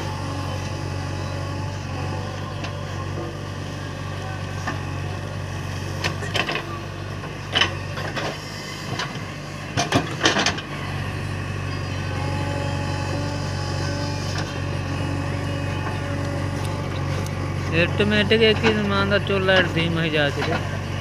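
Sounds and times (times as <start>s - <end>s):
backhoe digging soil: 0.0s - 21.0s
diesel engine running: 0.0s - 21.0s.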